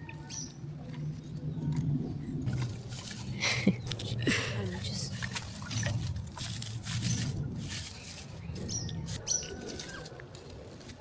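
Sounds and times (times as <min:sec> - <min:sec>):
twigs and leaves rustling and snapping: 0:00.8 - 0:11.0.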